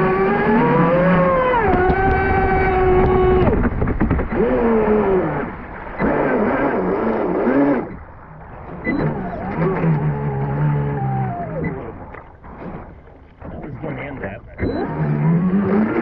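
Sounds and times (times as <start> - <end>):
model boat motor whining: 0.0 - 8.1, 8.8 - 16.0.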